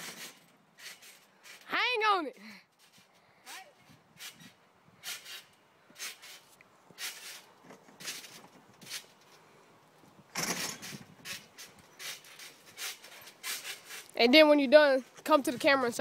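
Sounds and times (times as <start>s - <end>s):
trampoline springs creaking: 0.0s - 16.0s.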